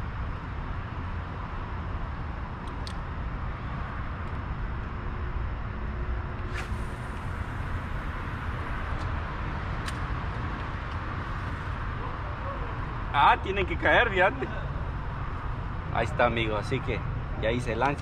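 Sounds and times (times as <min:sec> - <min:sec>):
traffic rumble and road noise: 0:00.0 - 0:18.0.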